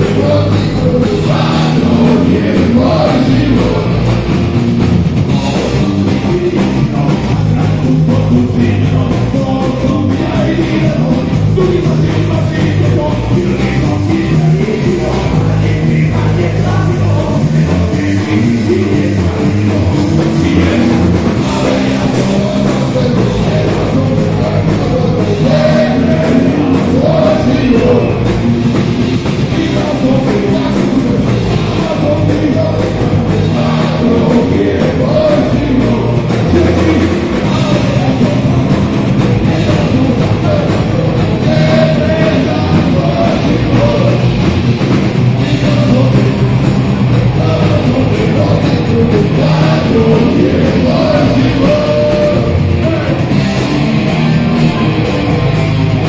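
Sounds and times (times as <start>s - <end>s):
person singing: 0.0s - 4.4s, 5.3s - 56.0s
bass guitar: 0.0s - 56.0s
drum kit: 0.0s - 56.0s
electric guitars: 0.0s - 56.0s.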